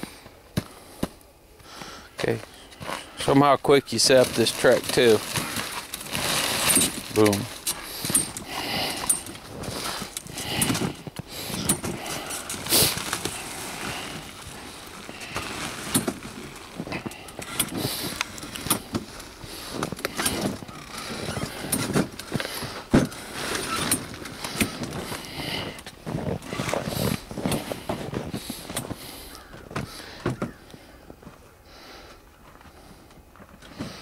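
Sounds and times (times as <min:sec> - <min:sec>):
canvas rustling: 0:02.5 - 0:30.6.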